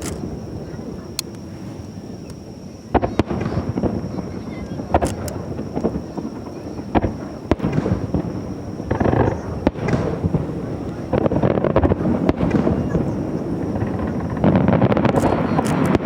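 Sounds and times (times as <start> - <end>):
fireworks crackle and rumble: 0.0 - 16.0
fireworks shells bursting: 0.0 - 16.0.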